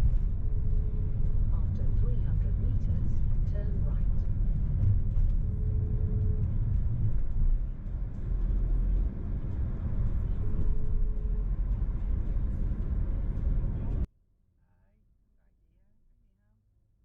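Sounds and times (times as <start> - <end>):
car engine and tyres rumbling: 0.0 - 14.1.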